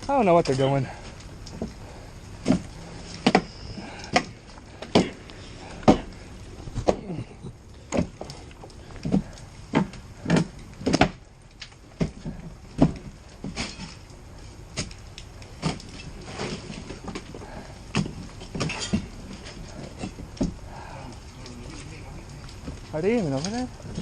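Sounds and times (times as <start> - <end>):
hand tools prying at burnt material: 0.0 - 21.9.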